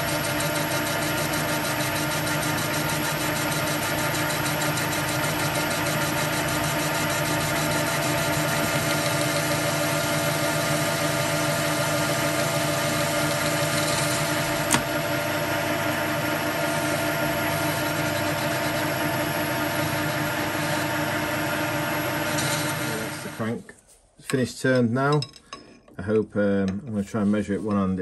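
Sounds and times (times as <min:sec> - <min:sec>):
tool cutting metal: 0:00.0 - 0:15.1, 0:15.7 - 0:23.5
metal lathe humming: 0:00.0 - 0:23.6.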